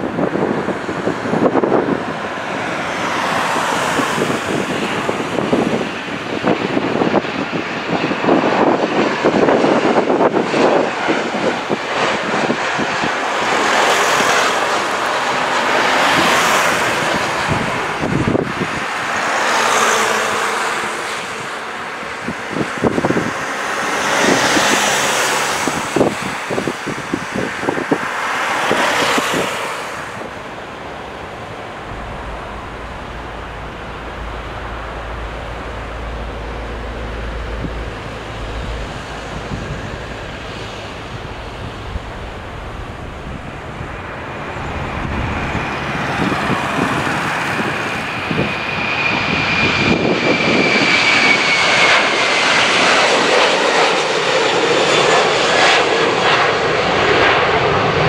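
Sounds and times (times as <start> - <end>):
jet engines rushing overhead: 0.0 - 58.0
wind buffeting microphone: 0.0 - 58.0.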